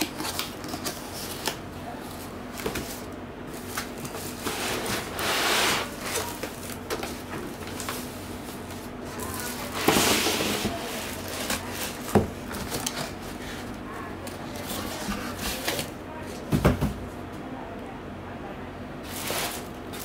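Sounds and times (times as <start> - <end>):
cardboard and plastic scraping: 0.0 - 16.9, 19.0 - 20.0.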